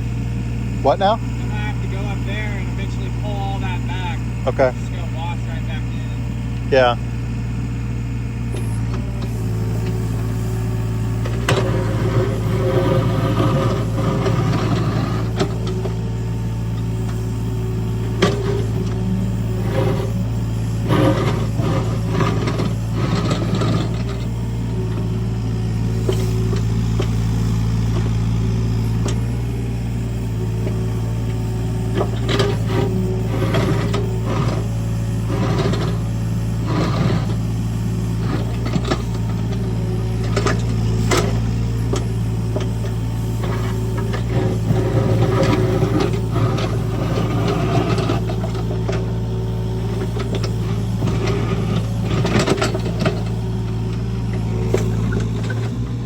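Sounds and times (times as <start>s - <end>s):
heavy machine engine running: 0.0s - 56.0s
clanks and rattles of gravel: 8.4s - 56.0s.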